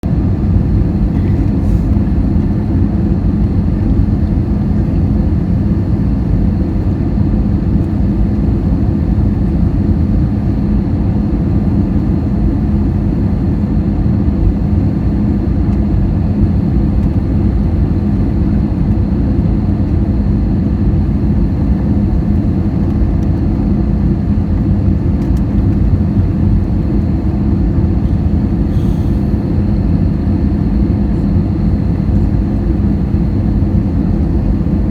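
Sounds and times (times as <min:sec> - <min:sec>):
jet airliner rumble: 0:00.0 - 0:34.9.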